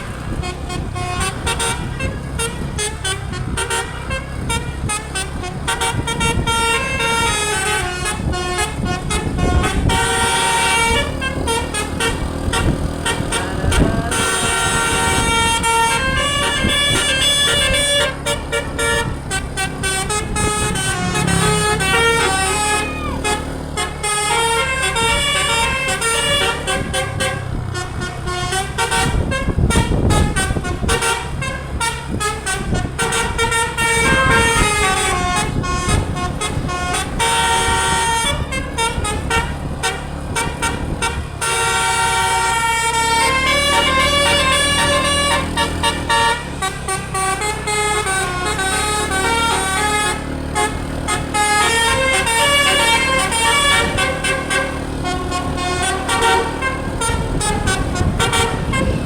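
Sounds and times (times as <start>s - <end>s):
musical air horn tunes: 0.0s - 59.0s
running vehicle: 0.0s - 59.0s.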